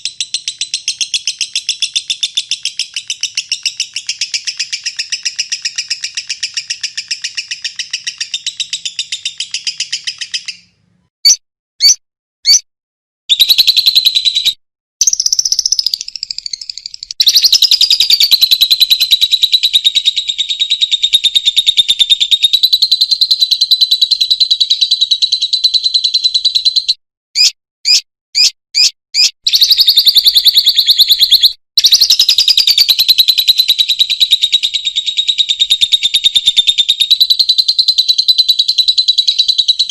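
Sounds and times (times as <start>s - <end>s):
lovebird chattering trills: 0.0s - 12.6s, 13.3s - 39.9s
sharp bird chirps: 0.0s - 12.7s, 13.3s - 39.9s.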